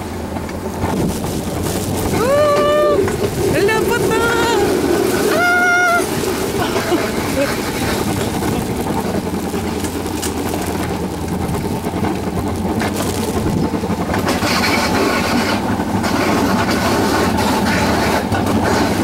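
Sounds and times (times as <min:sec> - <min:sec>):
coaster wheels rumbling on rails: 0:00.0 - 0:19.0.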